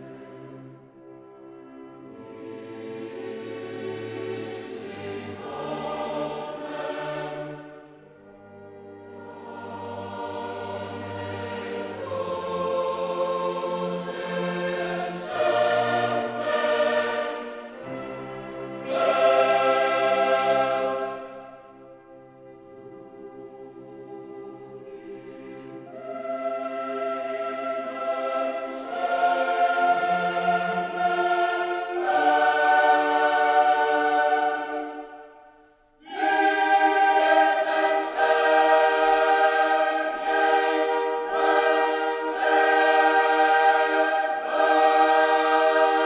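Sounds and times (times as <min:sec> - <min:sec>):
choir singing: 0:00.0 - 0:46.0.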